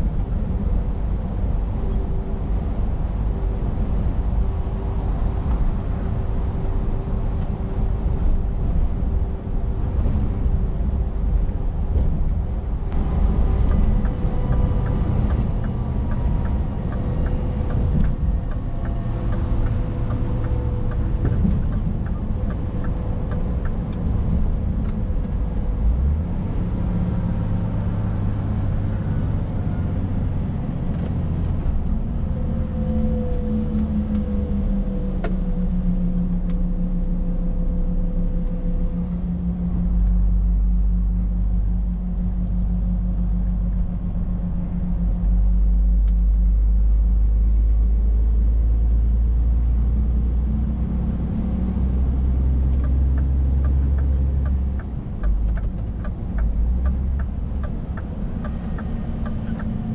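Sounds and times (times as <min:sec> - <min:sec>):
road noise: 0:00.0 - 0:59.9
truck diesel engine rumble: 0:00.0 - 0:59.9.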